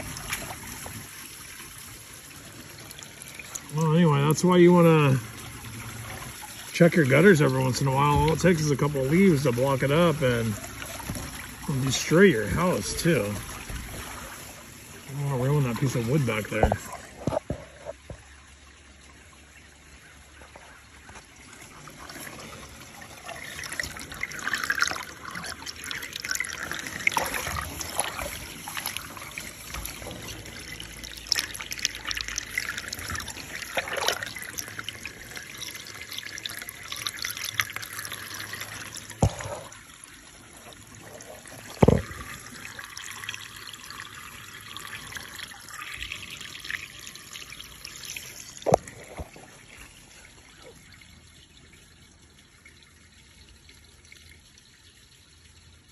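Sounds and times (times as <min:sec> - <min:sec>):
water running in metal gutter: 0:00.0 - 0:55.9.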